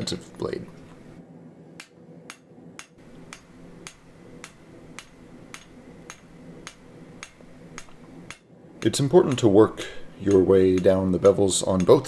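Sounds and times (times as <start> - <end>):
hammer striking steel on anvil: 1.8 - 12.0.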